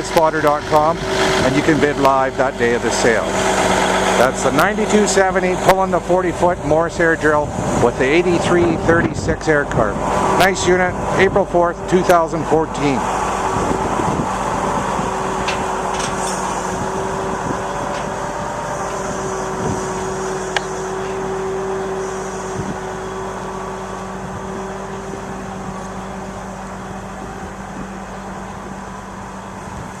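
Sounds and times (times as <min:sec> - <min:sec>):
steady tone: 0:00.0 - 0:30.0
tractor diesel engine under load: 0:00.0 - 0:30.0.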